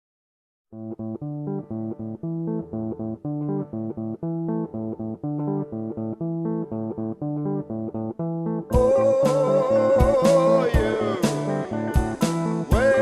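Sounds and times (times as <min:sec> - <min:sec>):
plucked guitar riff: 0:00.7 - 0:13.0.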